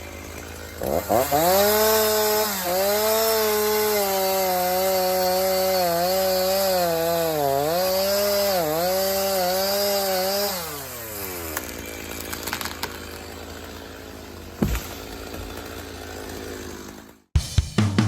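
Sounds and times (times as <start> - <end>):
chainsaw cutting wood: 0.0 - 17.3.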